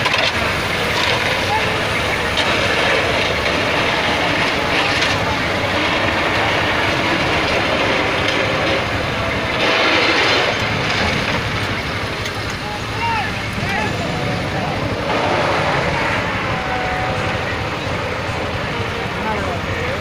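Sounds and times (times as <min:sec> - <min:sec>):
truck engine running: 0:00.0 - 0:20.0
tyres grinding over gravel: 0:00.0 - 0:20.0.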